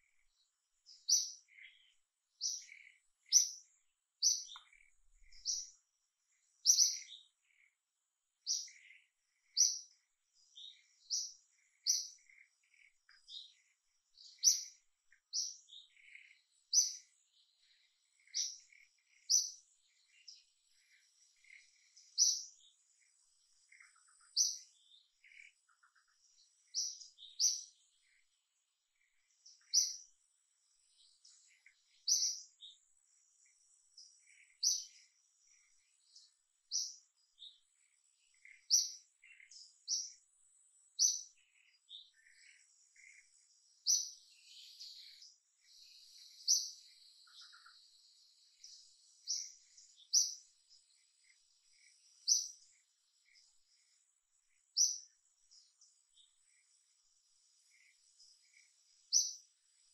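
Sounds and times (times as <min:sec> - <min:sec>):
bird chirping: 0:00.0 - 0:59.9
forest insects droning: 0:08.4 - 0:59.9.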